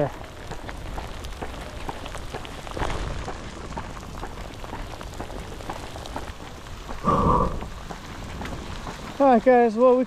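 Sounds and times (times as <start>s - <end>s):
rain and hail pattering: 0.0s - 10.0s.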